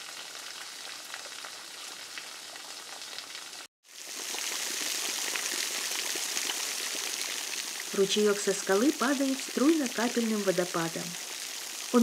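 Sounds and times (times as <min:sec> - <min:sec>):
waterfall trickling and dripping: 0:00.0 - 0:12.0.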